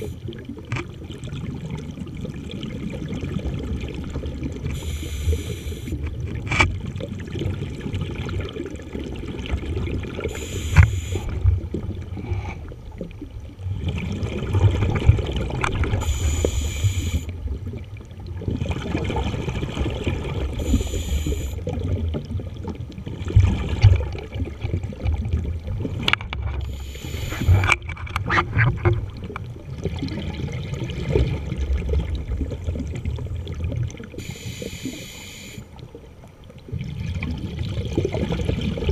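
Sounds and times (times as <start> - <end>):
muffled underwater rumble: 0.0 - 38.9
scuba regulator breathing and bubbles: 0.0 - 38.9.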